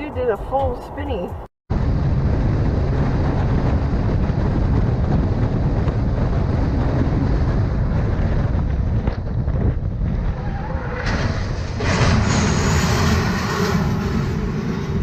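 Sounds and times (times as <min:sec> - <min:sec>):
vehicle rumble: 0:00.0 - 0:15.0
wind noise on microphone: 0:00.0 - 0:15.0.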